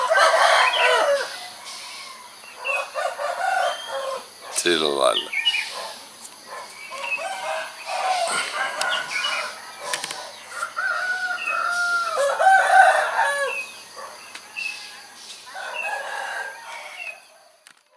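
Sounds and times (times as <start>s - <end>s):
roosters crowing: 0.0s - 17.6s.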